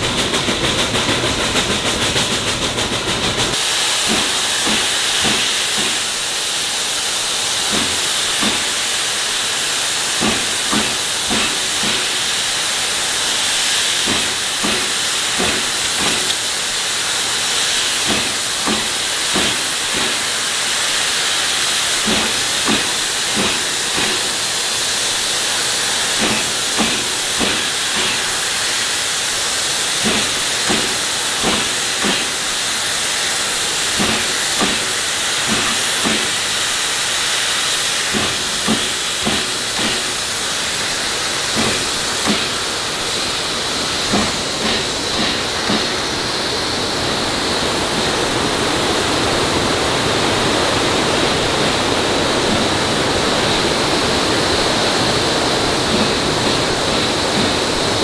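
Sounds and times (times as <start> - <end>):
steam hiss: 0.0 - 58.0.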